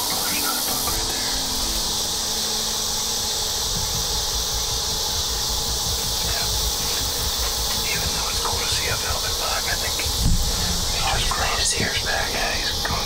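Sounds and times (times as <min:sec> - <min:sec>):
insects droning: 0:00.0 - 0:13.0
low rumble: 0:01.8 - 0:13.0.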